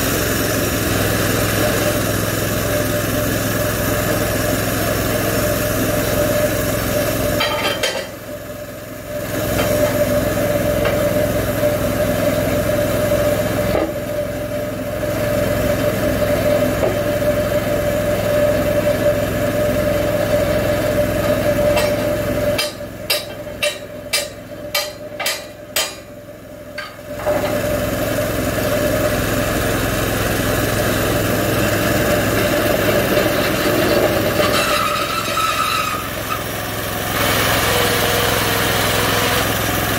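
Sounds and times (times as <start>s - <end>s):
small engine running: 0.0s - 25.4s, 26.8s - 39.9s.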